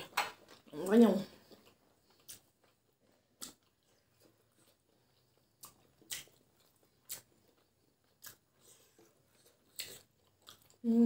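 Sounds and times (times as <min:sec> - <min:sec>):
mouth chewing smacks and clicks: 0:01.4 - 0:10.8.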